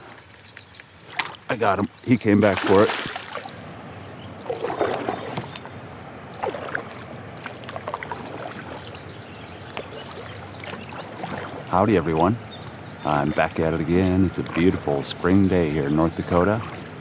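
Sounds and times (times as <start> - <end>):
water sloshing against kayak: 0.0 - 17.0.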